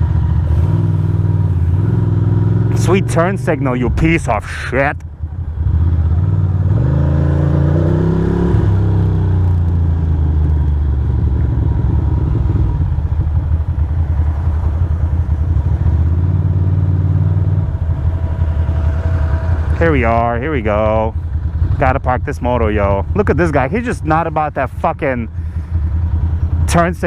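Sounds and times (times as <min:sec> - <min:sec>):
motorcycle engine revving: 0:00.0 - 0:04.2, 0:05.0 - 0:27.0.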